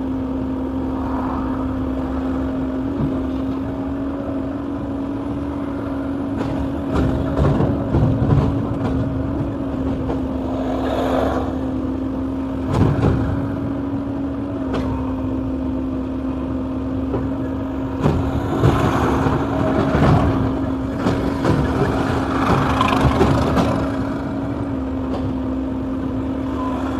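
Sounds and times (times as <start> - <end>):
excavator engine running: 0.0 - 26.9.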